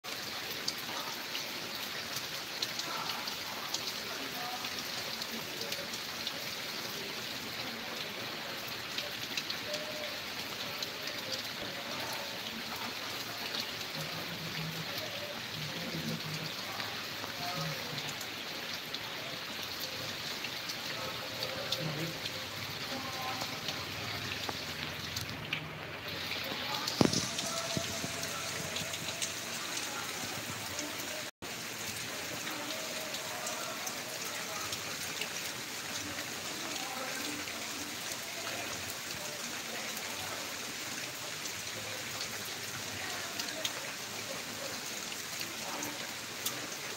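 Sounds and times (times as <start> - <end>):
rain falling: 0.0 - 46.9
faint voices: 0.2 - 46.9.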